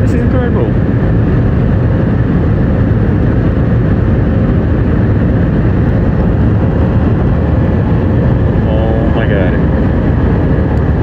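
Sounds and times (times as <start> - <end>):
jet engine and air rush: 0.0 - 11.0.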